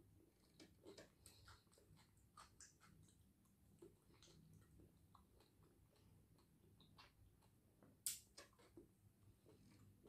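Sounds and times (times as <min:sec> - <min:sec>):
faint chewing: 0:00.0 - 0:10.0.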